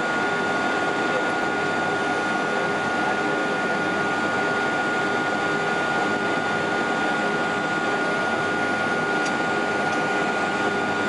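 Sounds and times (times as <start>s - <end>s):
high engine whine: 0.0s - 11.0s.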